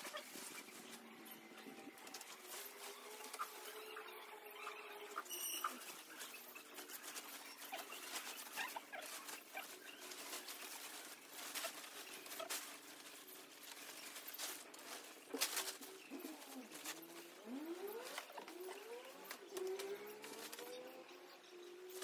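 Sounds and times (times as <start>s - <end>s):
tent fabric rustling: 0.0s - 21.0s.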